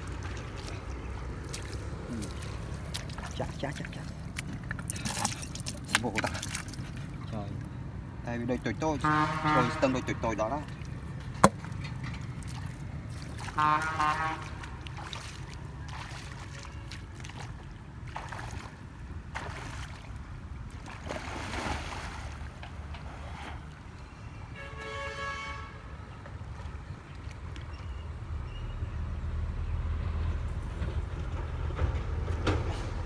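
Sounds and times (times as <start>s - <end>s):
water sloshing and splashing: 0.0s - 24.4s, 25.8s - 28.7s.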